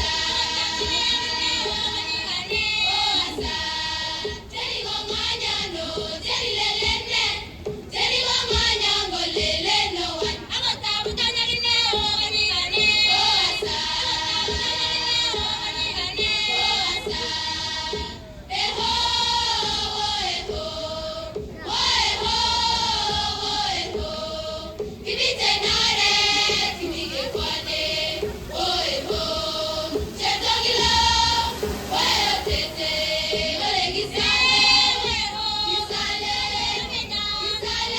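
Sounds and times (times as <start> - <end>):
choir singing: 0.0 - 37.9
musical accompaniment: 0.0 - 37.9.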